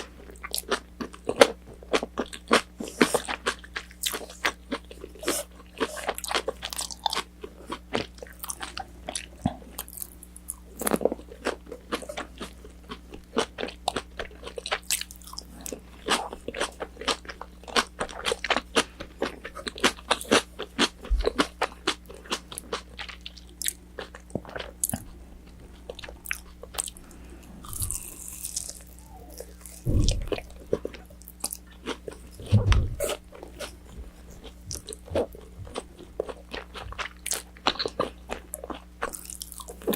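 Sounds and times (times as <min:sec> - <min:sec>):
crunching and chewing fried chicken: 0:00.0 - 0:39.9.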